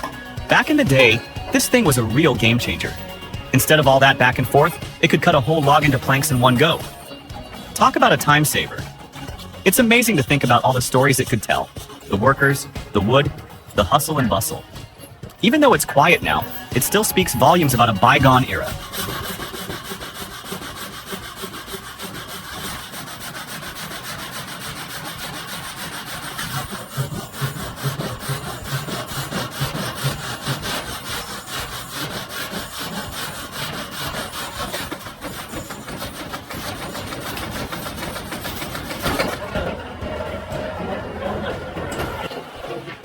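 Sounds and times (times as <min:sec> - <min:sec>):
saw blade cutting log: 0:00.0 - 0:43.0.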